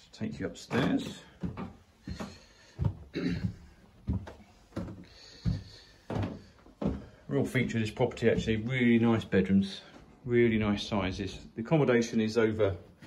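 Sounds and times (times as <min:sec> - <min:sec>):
footsteps climbing stairs: 0:00.0 - 0:11.5.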